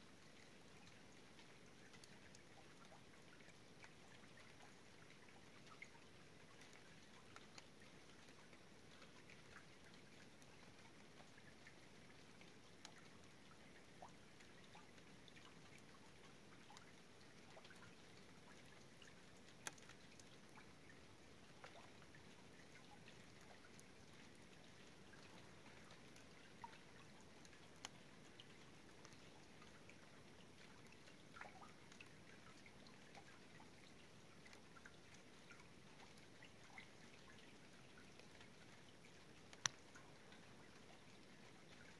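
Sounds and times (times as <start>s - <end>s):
low steady hiss: 0.0s - 41.9s
water dripping into creek: 0.0s - 41.9s.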